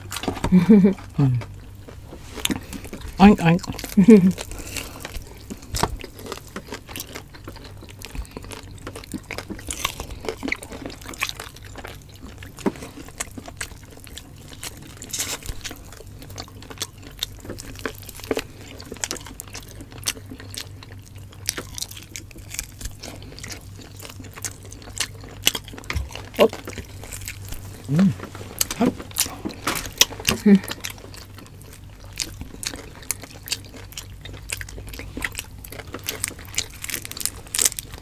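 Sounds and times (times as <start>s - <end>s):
chewing and crunching: 0.0s - 38.0s.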